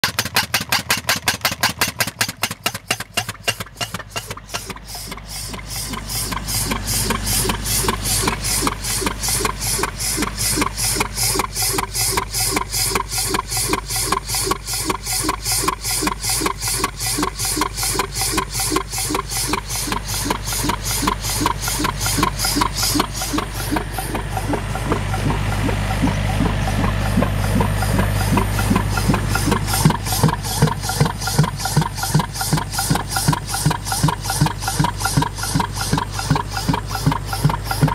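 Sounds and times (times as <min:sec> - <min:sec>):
low engine drone: 0:00.0 - 0:37.9
pneumatic tool hammering: 0:00.0 - 0:37.9.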